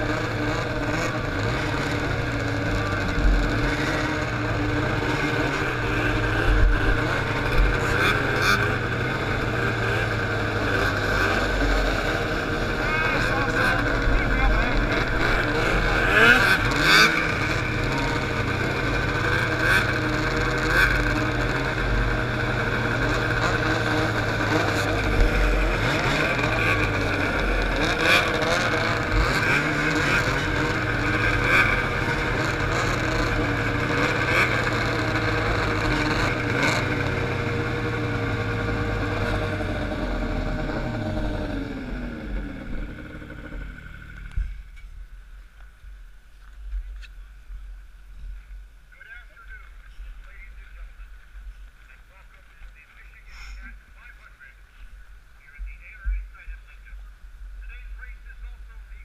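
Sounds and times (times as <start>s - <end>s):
snowmobile engines idling: 0.0s - 59.0s.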